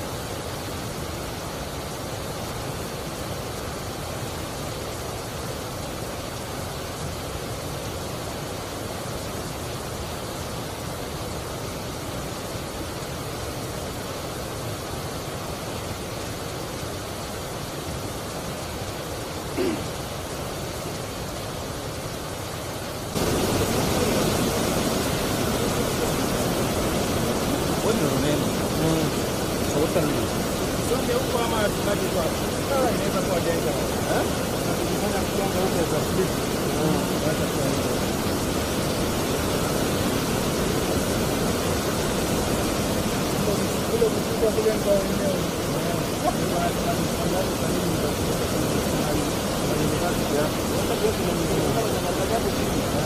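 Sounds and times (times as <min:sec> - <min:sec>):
river rushing: 0:00.0 - 0:53.0
water churning over rocks: 0:00.0 - 0:53.0.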